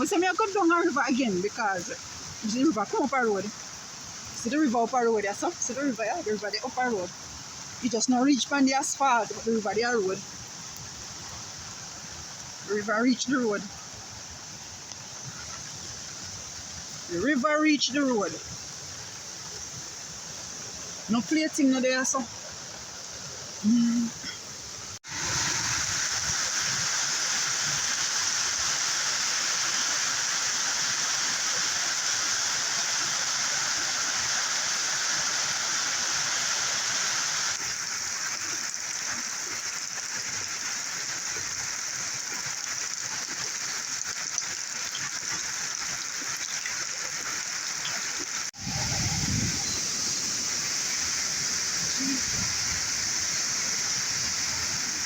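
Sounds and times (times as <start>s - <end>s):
heavy rain: 0.0s - 55.0s
rushing river water: 0.0s - 55.0s.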